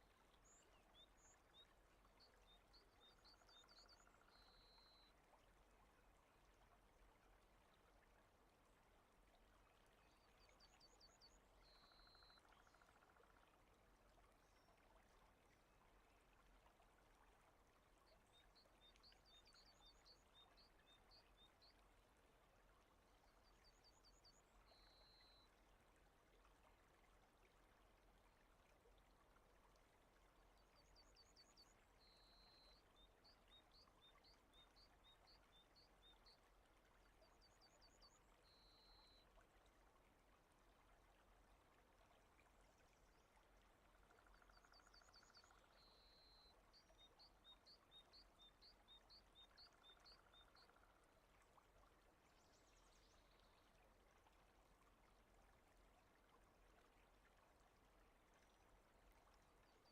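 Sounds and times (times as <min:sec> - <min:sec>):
soft rain hiss: 0:00.0 - 0:59.9.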